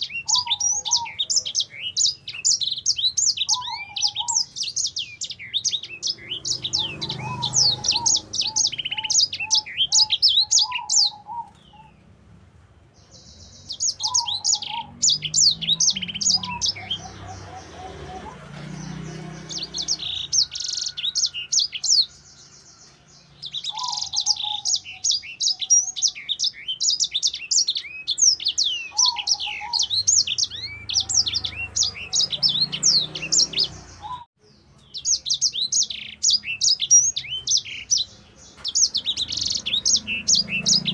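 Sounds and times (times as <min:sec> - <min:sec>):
finch twittering song: 0:00.0 - 0:12.2, 0:12.8 - 0:40.9.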